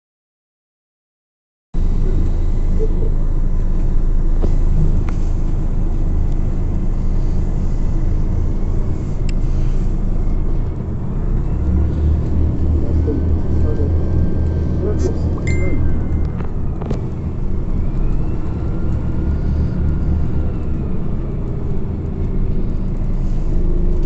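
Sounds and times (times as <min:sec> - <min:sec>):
bus engine and road rumble: 0:01.8 - 0:24.0.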